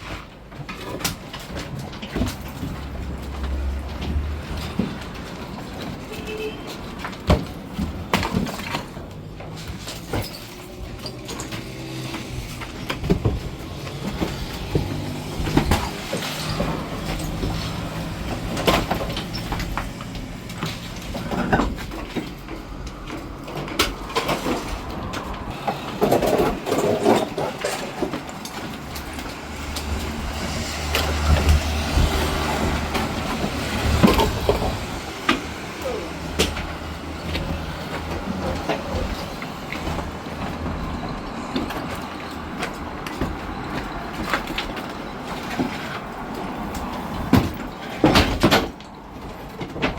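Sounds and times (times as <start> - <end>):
knocks and clatter: 0.0 - 49.9.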